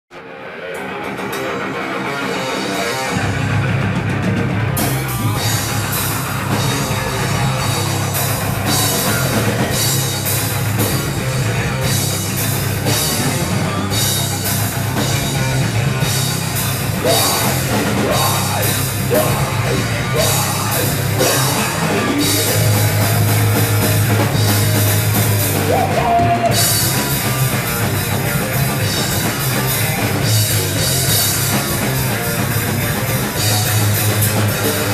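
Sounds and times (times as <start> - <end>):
bass guitar: 0.1 - 34.9
distorted guitar: 0.1 - 34.9
drum kit: 0.6 - 34.9.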